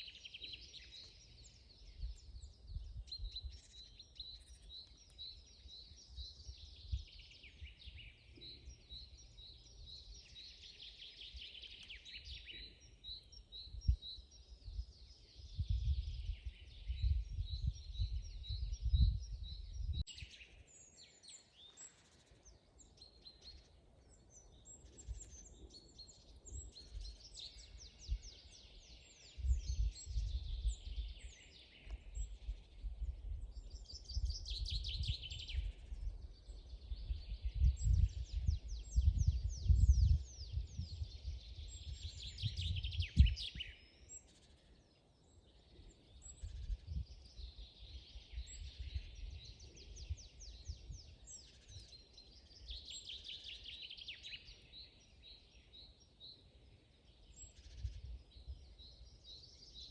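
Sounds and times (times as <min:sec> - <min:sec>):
songbirds singing and chirping: 0:00.0 - 0:59.9.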